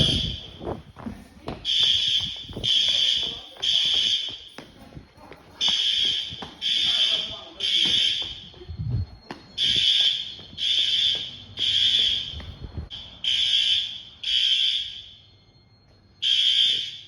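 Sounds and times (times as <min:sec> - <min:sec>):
fire alarm horn blasts: 0:00.0 - 0:00.9, 0:01.6 - 0:04.8, 0:05.6 - 0:17.0.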